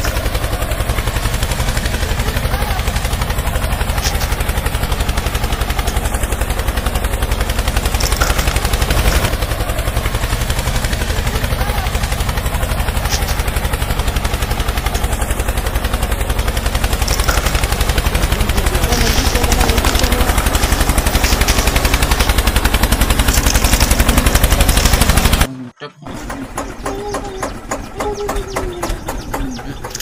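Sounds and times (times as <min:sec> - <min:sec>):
small tractor engine putt-putt: 0:00.0 - 0:30.0.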